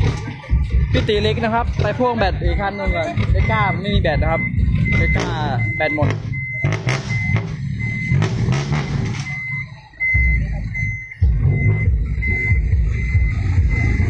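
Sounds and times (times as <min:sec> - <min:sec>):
diesel truck engine revving: 0:00.0 - 0:14.0
reversing beeper: 0:00.0 - 0:14.0.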